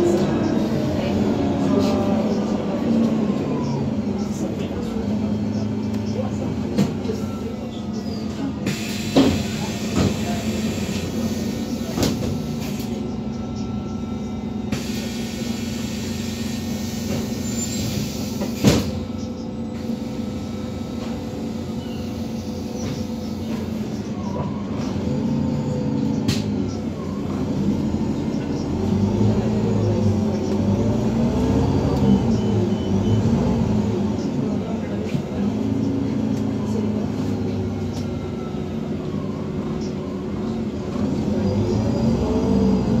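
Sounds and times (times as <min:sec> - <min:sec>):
bus engine idling: 0:00.0 - 0:43.0.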